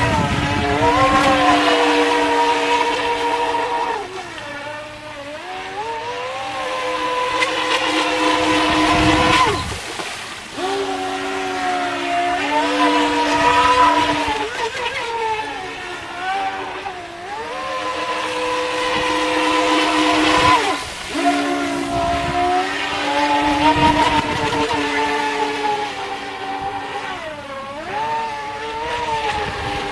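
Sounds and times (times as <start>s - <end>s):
toy boat motor whining: 0.0s - 29.9s
water hissing off hull: 0.0s - 29.9s.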